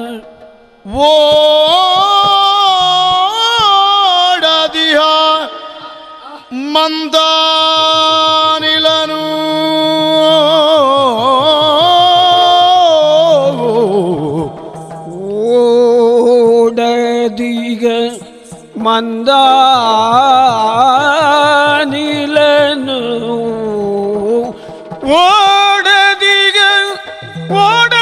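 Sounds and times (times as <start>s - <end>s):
drum strokes: 0.0s - 28.0s.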